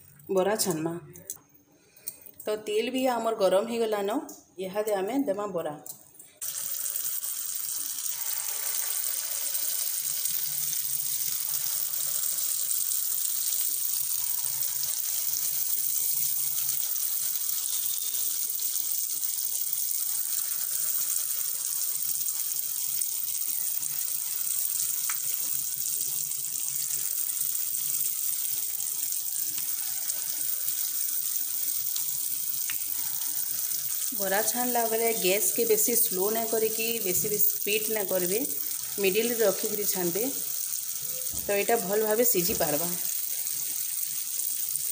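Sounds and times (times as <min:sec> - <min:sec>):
batter sizzling in hot oil: 0:06.4 - 0:44.9.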